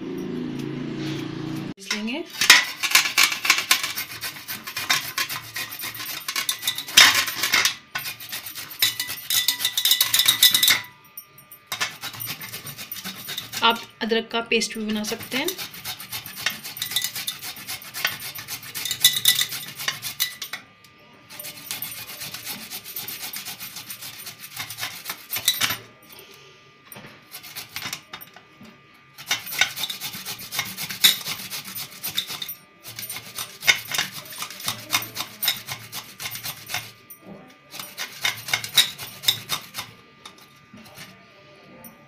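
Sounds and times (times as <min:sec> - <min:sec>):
ginger grating on metal grater: 0:01.8 - 0:10.9, 0:11.7 - 0:26.4, 0:27.2 - 0:28.4, 0:29.1 - 0:41.3.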